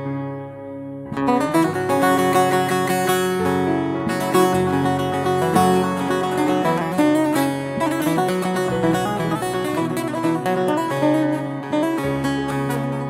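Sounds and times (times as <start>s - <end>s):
plucked string instrumental music: 0.0s - 13.0s.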